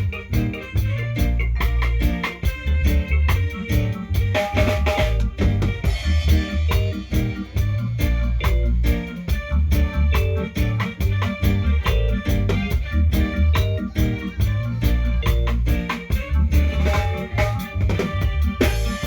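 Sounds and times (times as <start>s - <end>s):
heavy bass line: 0.0s - 19.0s
live band playing: 0.0s - 19.0s.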